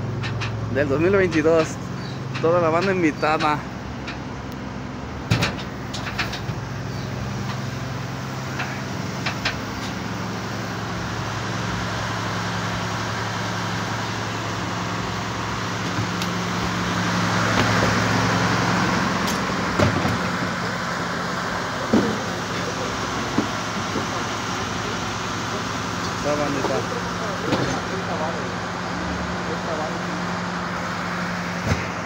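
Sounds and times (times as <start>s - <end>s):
low engine hum: 0.0s - 32.0s
outdoor street noise: 0.0s - 32.0s.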